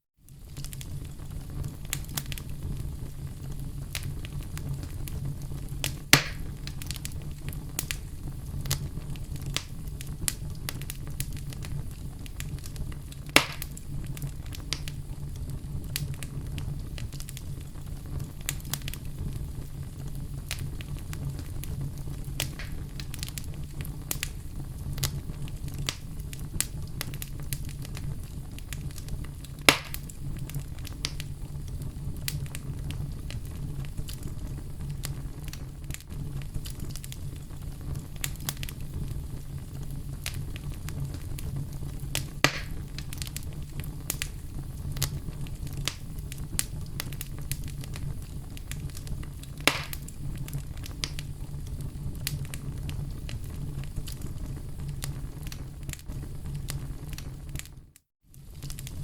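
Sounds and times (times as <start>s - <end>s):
loud fire pops: 0.3s - 59.0s
wood fire crackling: 0.3s - 59.0s.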